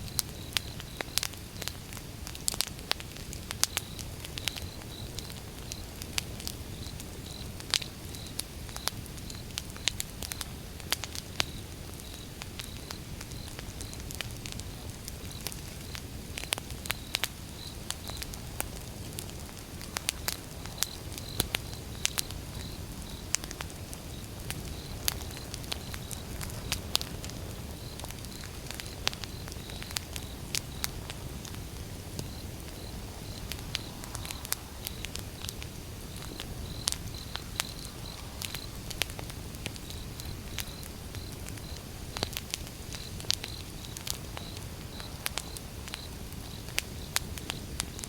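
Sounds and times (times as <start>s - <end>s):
burning logs crackling: 0.0s - 48.0s
low rumble of flame: 0.0s - 48.0s.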